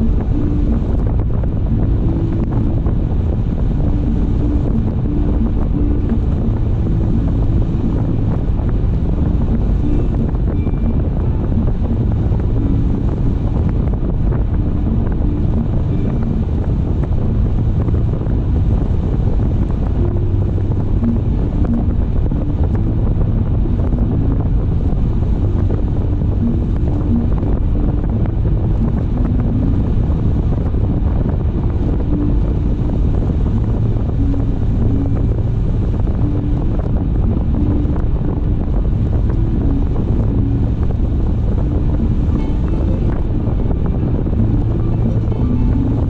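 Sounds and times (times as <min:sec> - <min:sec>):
car road rumble: 0:00.0 - 0:46.0.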